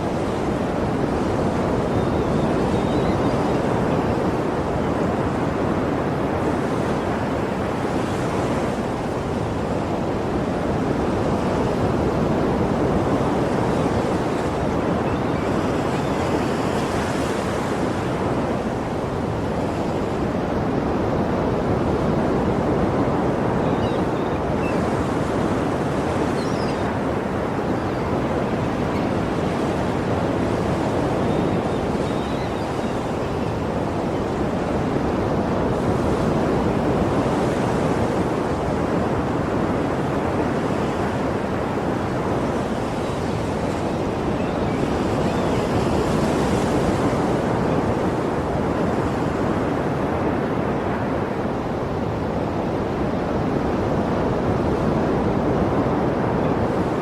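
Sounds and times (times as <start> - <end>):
waves breaking on shore: 0.0 - 57.0.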